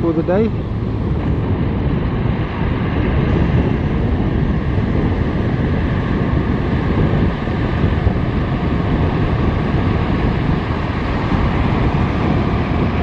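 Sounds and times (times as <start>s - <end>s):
engine drone: 0.0s - 13.0s
surf washing up beach: 0.0s - 13.0s
wind buffeting microphone: 0.0s - 13.0s.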